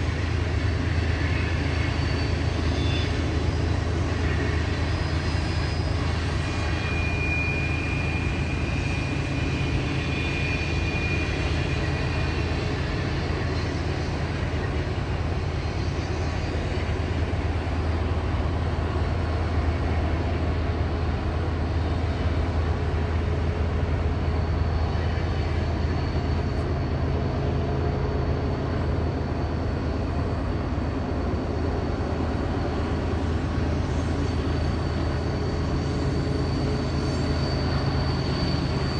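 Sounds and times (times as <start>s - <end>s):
locomotive engine drone: 0.0s - 38.9s.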